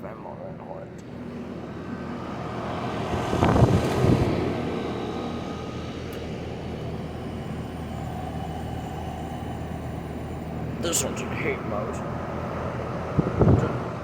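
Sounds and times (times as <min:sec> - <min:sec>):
heat pump fan whoosh: 0:00.9 - 0:14.0.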